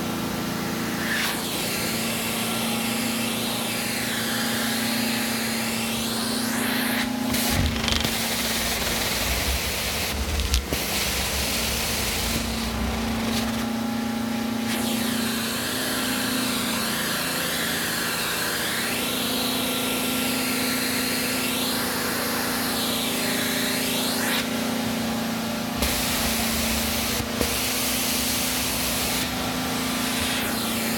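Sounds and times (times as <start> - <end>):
carpet extractor humming and hissing: 0.0 - 30.9.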